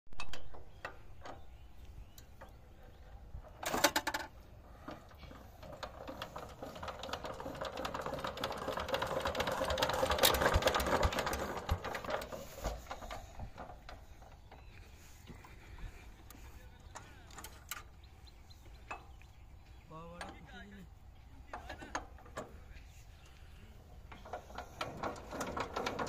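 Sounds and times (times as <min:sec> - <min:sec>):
diesel tiller engine clattering: 0:00.5 - 0:26.0.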